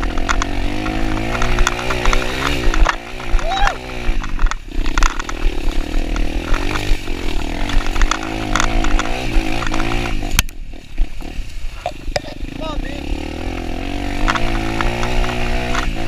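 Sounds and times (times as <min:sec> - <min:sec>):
knocks and rattles: 0:00.0 - 0:12.3, 0:13.5 - 0:16.0
dirt bike engine revving: 0:00.0 - 0:16.0.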